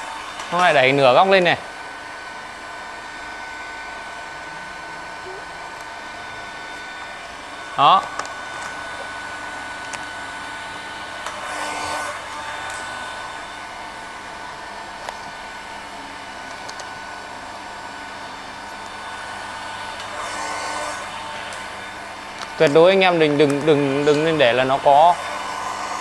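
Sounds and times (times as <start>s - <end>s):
heat gun blowing: 0.0s - 26.0s.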